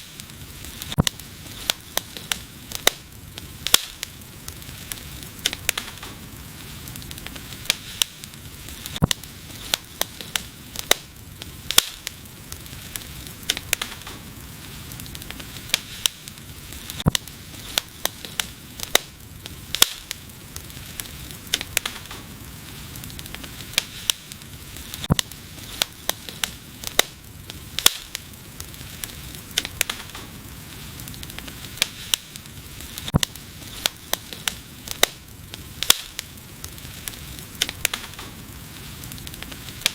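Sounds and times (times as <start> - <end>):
fire crackling and popping: 0.0 - 39.9
hiss and rumble of flames: 0.0 - 39.9.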